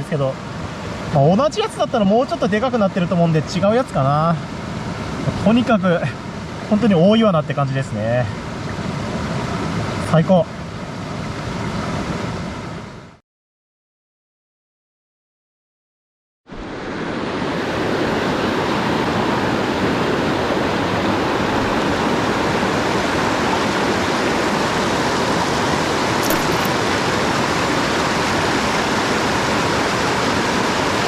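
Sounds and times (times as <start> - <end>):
rushing stream water: 0.0 - 13.0, 16.5 - 31.0.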